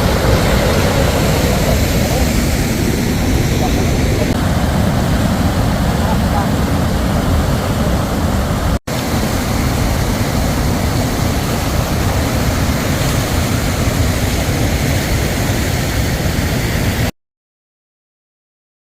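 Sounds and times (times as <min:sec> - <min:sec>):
waterfall roaring: 0:00.0 - 0:17.1.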